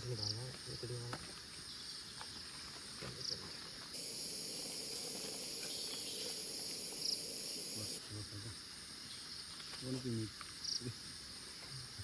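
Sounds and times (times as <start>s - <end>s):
insects buzzing in chorus: 0.0s - 12.0s.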